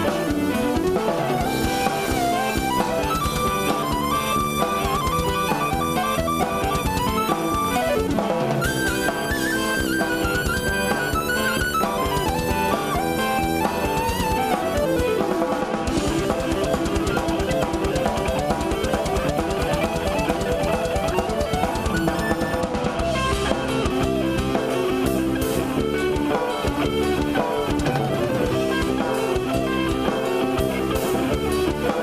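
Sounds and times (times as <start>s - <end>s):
drum kit drumming: 0.0s - 32.0s
electric guitar runs: 0.0s - 32.0s.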